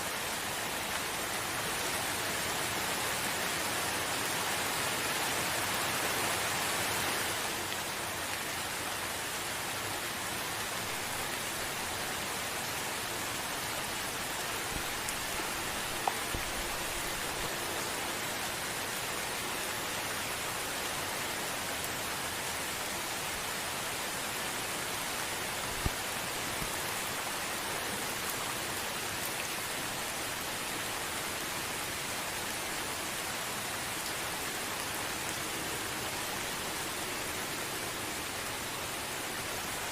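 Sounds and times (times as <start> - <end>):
gentle steady rain: 0.0 - 39.9.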